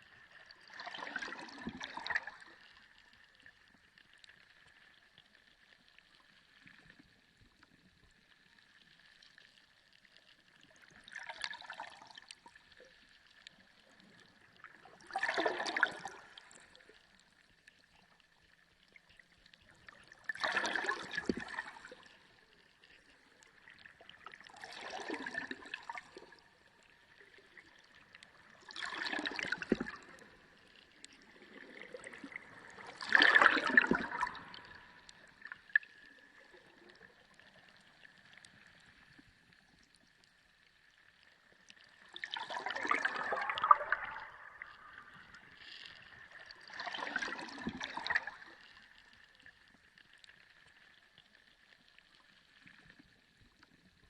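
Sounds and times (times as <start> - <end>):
sea water sloshing: 0.0 - 4.7, 9.4 - 40.2, 41.1 - 51.9.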